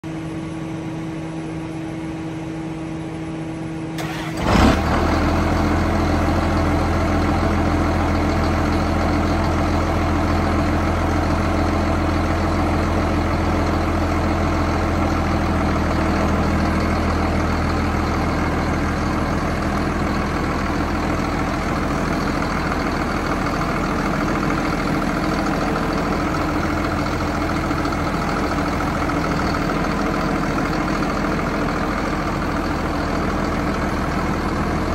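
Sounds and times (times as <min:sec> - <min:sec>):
tractor diesel engine idling: 0:03.3 - 0:34.9.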